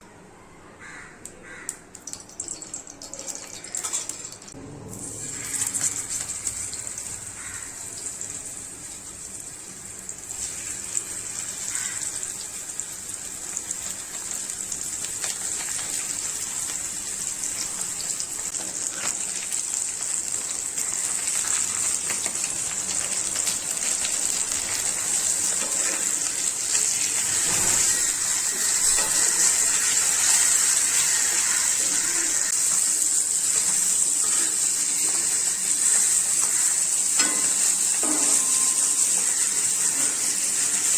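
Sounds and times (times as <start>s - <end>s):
fish sizzling in hot oil: 1.6s - 40.9s.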